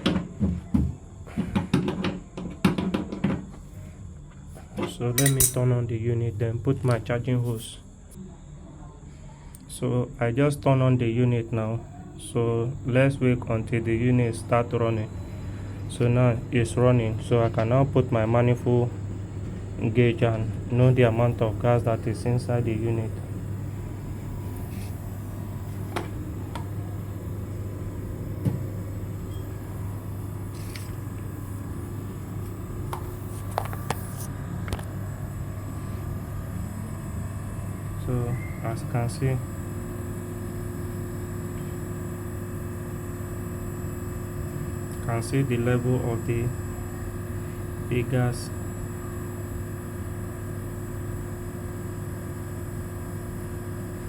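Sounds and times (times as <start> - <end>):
air conditioner humming: 0.0 - 54.0.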